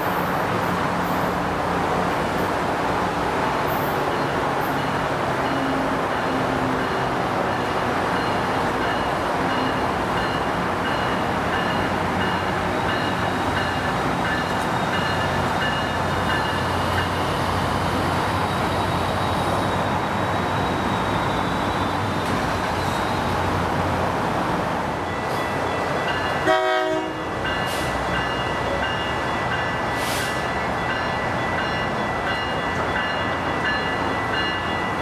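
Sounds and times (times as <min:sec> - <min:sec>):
train rumbling on track: 0:00.0 - 0:35.0.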